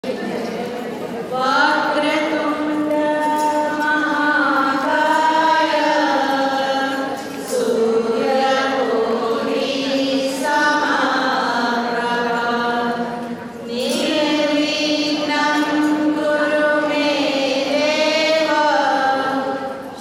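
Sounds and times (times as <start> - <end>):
woman singing devotional song: 1.3 - 20.0.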